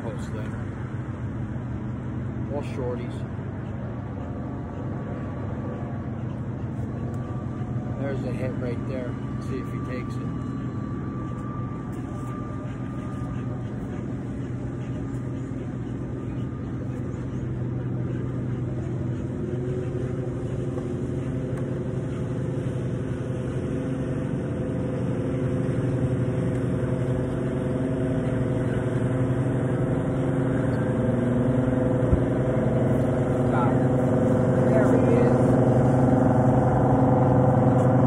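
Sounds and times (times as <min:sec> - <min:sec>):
boat diesel engines humming: 0:00.0 - 0:38.0.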